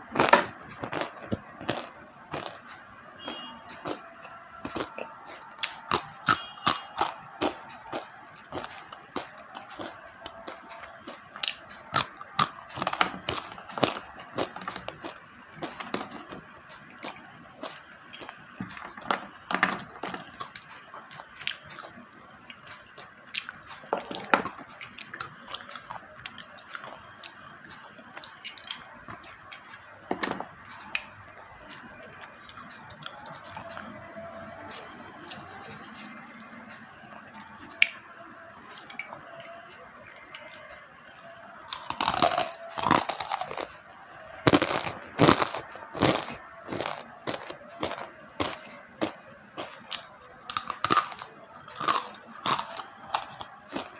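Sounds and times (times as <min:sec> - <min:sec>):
pencils crunching being chewed: 0:00.0 - 0:36.4, 0:38.7 - 0:53.9.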